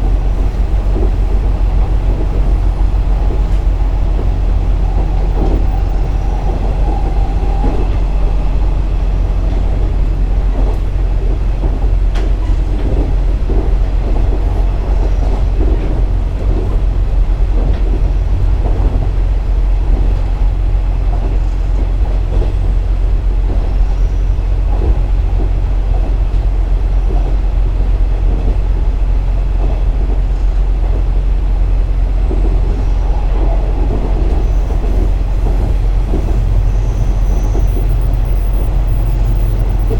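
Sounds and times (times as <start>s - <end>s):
low diesel engine drone: 0.0s - 39.9s
wheels clattering on rails: 0.0s - 39.9s.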